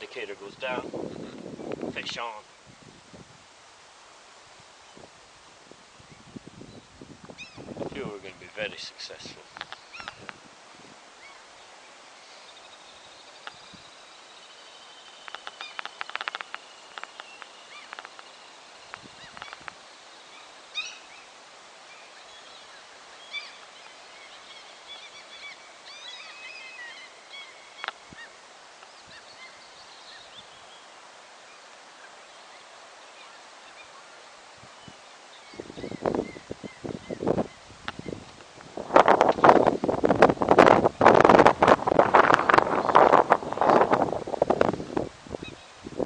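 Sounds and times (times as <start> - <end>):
birds chirping: 0.0 - 2.9, 6.0 - 10.5, 11.1 - 38.4, 39.0 - 45.9
faint outdoor hiss: 0.0 - 46.0.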